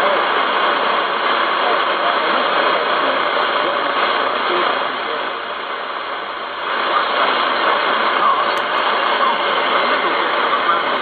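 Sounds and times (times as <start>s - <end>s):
radio static and hiss: 0.0s - 11.0s.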